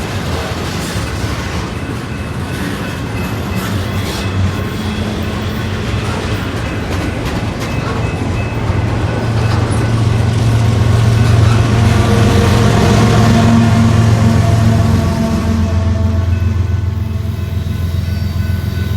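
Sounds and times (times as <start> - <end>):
freight train rumbling past: 0.0 - 18.9.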